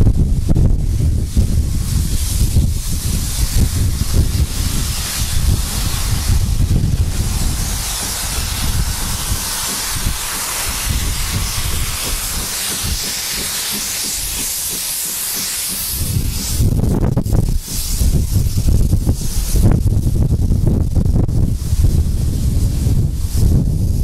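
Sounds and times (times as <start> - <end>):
wind rumble on microphone: 0.0 - 14.8, 15.7 - 24.0
steam locomotive hissing: 0.0 - 24.0.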